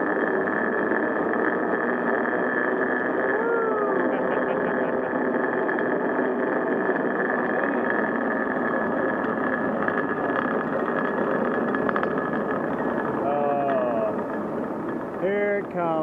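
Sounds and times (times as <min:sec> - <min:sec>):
pulley wheels rolling on steel cable: 0:00.0 - 0:16.0.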